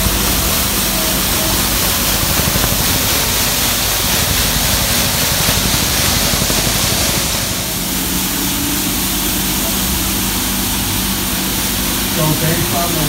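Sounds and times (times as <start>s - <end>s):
low engine rumble: 0.0s - 13.0s
rotating brooms hissing: 0.0s - 13.0s.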